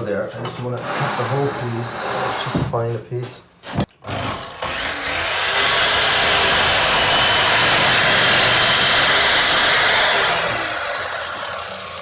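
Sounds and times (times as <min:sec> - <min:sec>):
power saw cutting wood: 0:00.7 - 0:02.6, 0:04.0 - 0:12.0.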